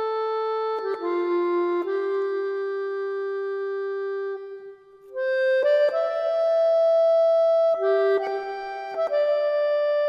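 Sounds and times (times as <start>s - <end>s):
slow music with long-held notes: 0.0s - 10.0s.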